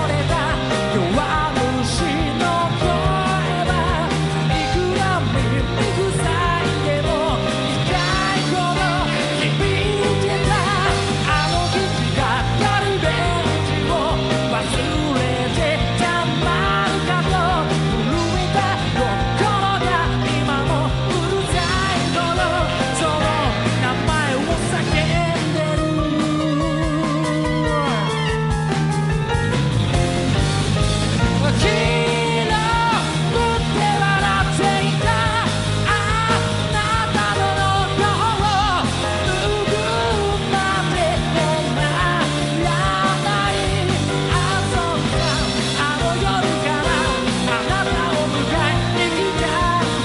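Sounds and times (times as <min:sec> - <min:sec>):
lead vocal singing: 0:00.0 - 0:28.7, 0:30.8 - 0:50.0
rock band playing live: 0:00.0 - 0:50.0.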